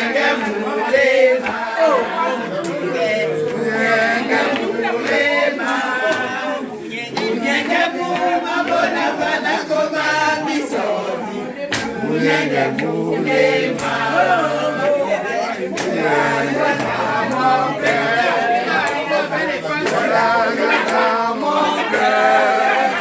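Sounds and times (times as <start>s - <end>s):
group singing without instruments: 0.0s - 23.0s.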